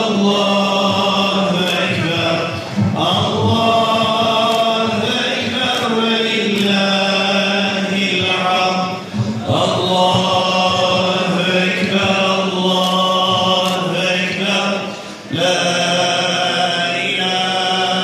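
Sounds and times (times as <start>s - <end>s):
crowd chanting: 0.0s - 18.0s.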